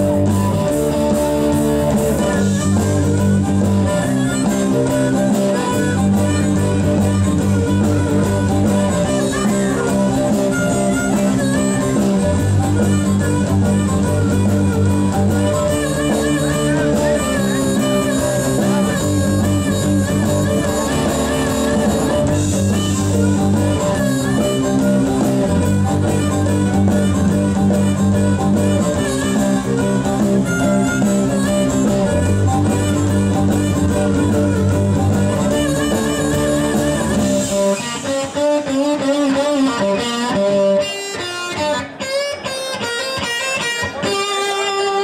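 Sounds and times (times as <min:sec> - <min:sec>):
bass: 0:00.0 - 0:45.0
drums: 0:00.0 - 0:45.0
electric guitars: 0:00.0 - 0:45.0
harmonica: 0:00.0 - 0:45.0.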